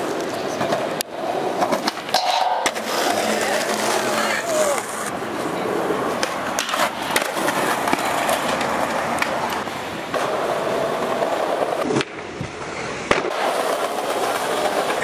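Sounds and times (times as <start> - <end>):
skateboard clacks: 0.0 - 15.0
skateboard wheels rolling on concrete: 0.0 - 15.0.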